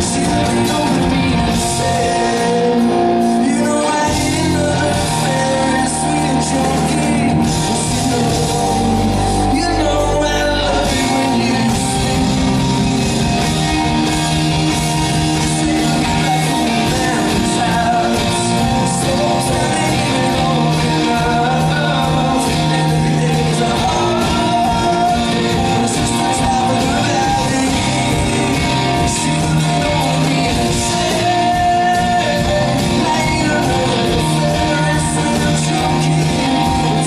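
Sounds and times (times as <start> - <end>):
electric guitars: 0.0 - 37.0
low held bass notes: 0.0 - 37.0
man singing: 0.0 - 37.0
steady drum beat: 0.0 - 37.0.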